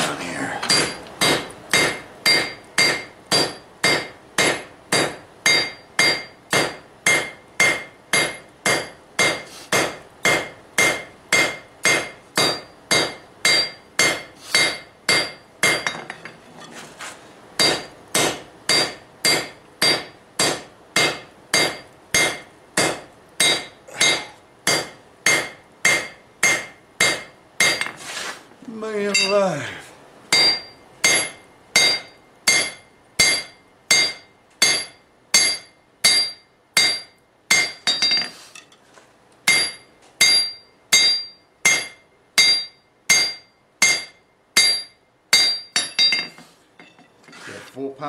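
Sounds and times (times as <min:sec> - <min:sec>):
hammer striking steel on anvil: 0:00.6 - 0:16.4, 0:17.6 - 0:28.0, 0:29.1 - 0:29.5, 0:30.3 - 0:38.8, 0:39.5 - 0:47.1.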